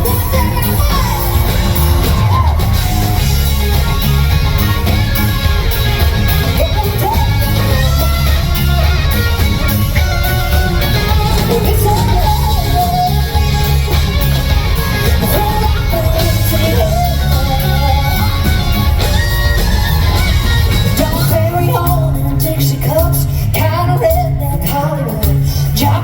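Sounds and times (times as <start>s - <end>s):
live country band playing: 0.0s - 26.0s
singer and crowd singing: 0.0s - 26.0s.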